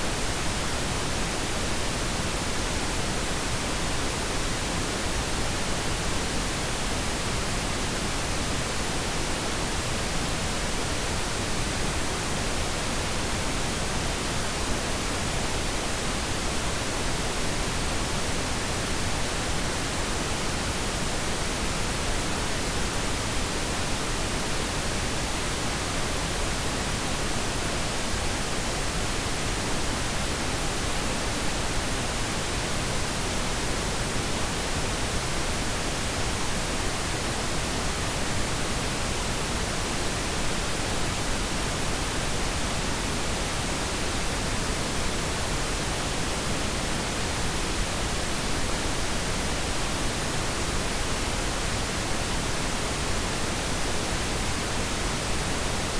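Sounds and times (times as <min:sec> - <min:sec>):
pink noise hiss: 0:00.0 - 0:55.9.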